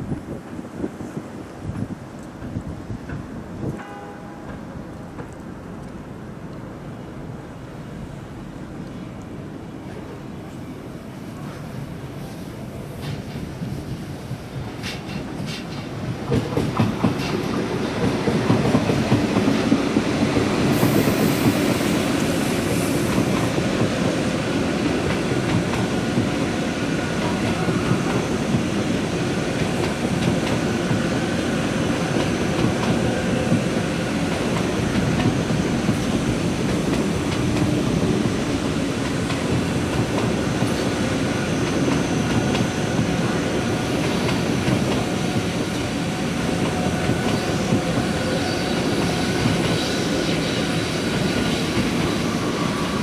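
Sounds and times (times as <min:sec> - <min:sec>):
train wheels rumbling on rail: 0:00.0 - 0:07.3, 0:08.4 - 0:53.0.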